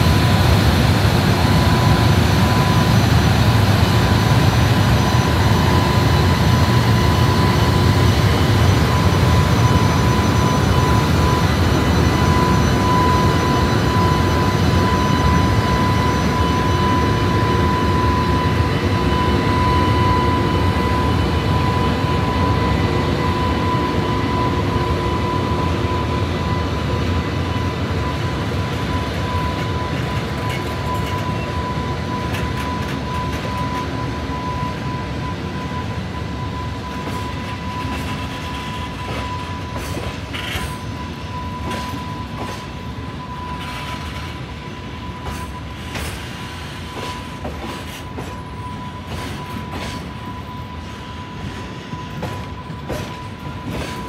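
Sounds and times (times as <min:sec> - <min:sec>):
locomotive blowers whining: 0:00.0 - 0:54.0.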